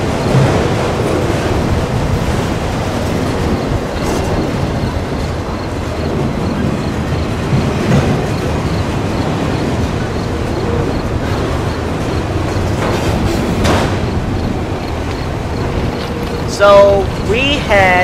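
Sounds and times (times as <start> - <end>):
loud knocks of rail cars: 0.0 - 17.2
freight train wheels rumbling on rails: 0.0 - 18.0.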